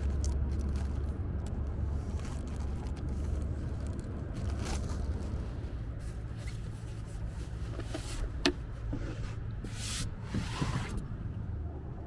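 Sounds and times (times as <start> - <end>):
rustling and handling noises: 0.0 - 11.0.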